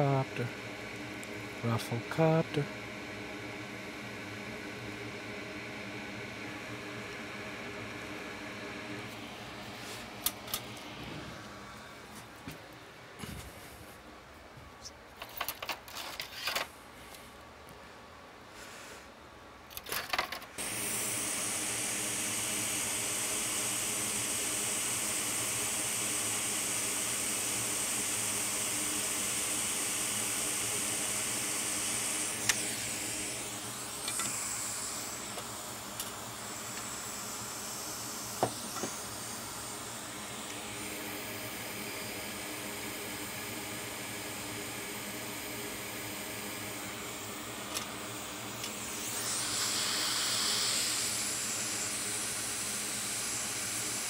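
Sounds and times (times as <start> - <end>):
hot air station hissing: 0.0 - 12.2, 18.5 - 19.1, 20.6 - 54.0
faint hum: 0.0 - 54.0.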